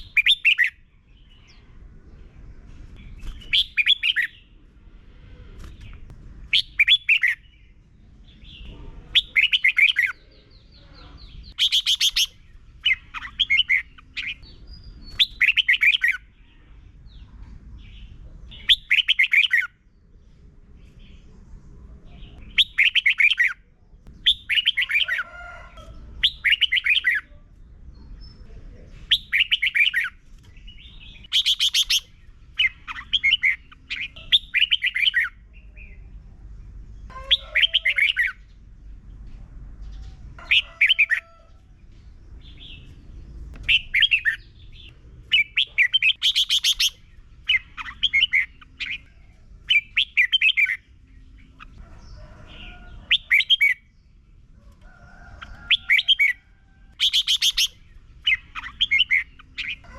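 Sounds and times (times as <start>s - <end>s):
bird singing warbled phrases: 0.0s - 2.4s, 3.0s - 4.8s, 5.4s - 38.8s, 42.3s - 54.5s, 55.4s - 59.9s.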